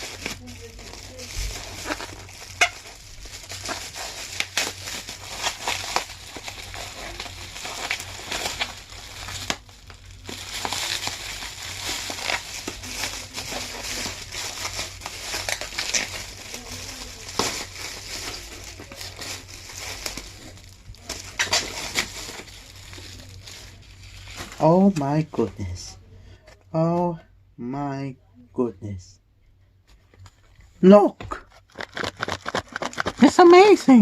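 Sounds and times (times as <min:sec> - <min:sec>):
packaging being crumpled: 0:00.0 - 0:25.2, 0:31.3 - 0:34.0.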